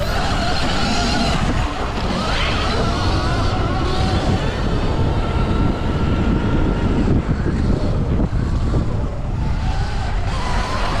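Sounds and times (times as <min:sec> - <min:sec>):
electric motor whine: 0:00.0 - 0:11.0
wind rushing on microphone: 0:00.0 - 0:11.0.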